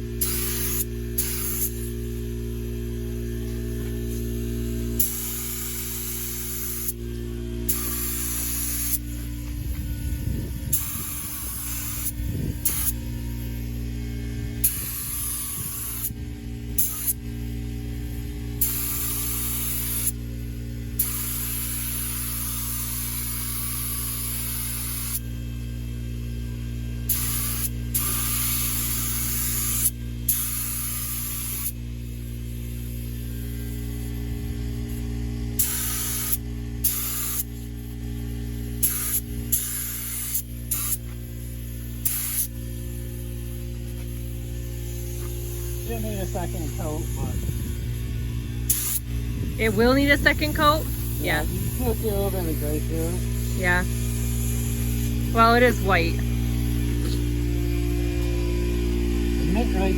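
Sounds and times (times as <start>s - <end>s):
air compressor running: 0.0s - 59.9s
paint spray gun hissing: 0.2s - 9.8s, 10.7s - 13.7s, 14.6s - 16.1s, 16.7s - 17.4s, 18.0s - 25.2s, 27.1s - 34.1s, 35.6s - 48.0s, 48.6s - 58.8s.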